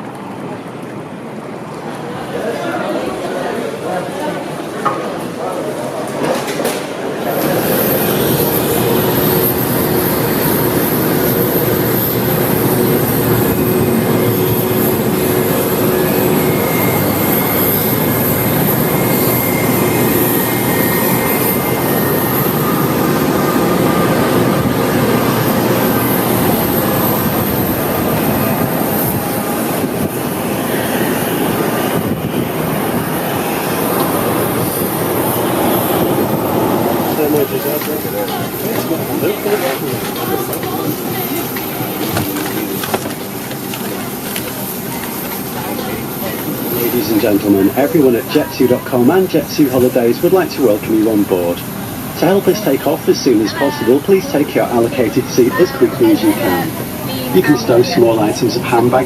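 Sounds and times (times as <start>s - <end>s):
airliner rush with high whine: 0.0s - 59.0s.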